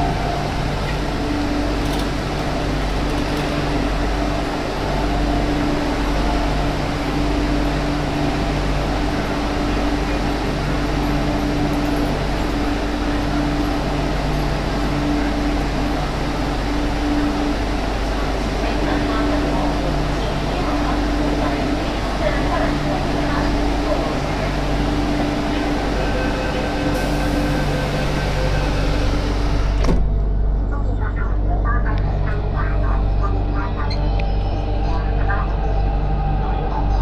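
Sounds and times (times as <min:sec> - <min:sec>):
train wheels on rail rushing: 0:00.0 - 0:30.0.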